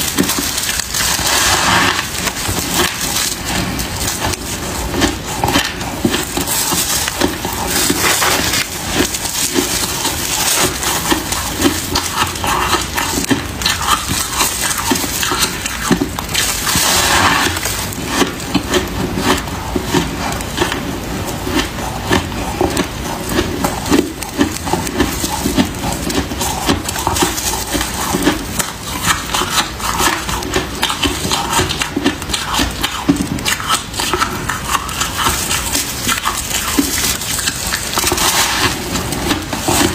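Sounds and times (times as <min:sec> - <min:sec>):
frost crunching and crackling: 0:00.0 - 0:39.9.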